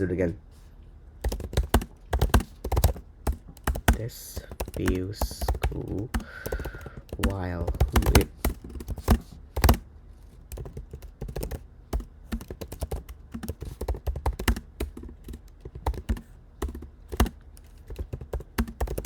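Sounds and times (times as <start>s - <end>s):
laptop keyboard typing: 1.2s - 19.0s.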